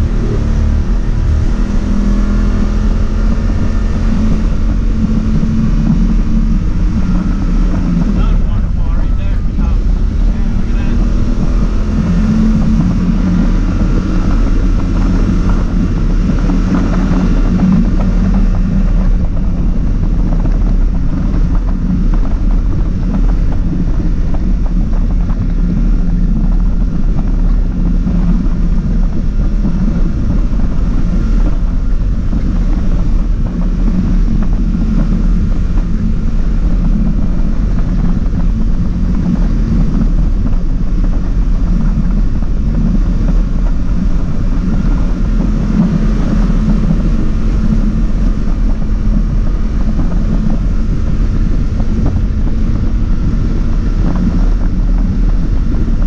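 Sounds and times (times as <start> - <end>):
quad bike engine running: 0.0 - 56.0
wind noise on microphone: 0.0 - 56.0.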